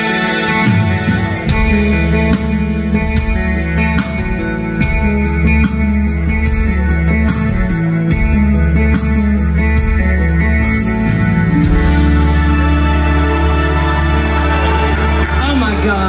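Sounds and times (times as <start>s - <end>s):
electric guitar chords: 0.0s - 16.0s
keyboard chords: 0.0s - 16.0s.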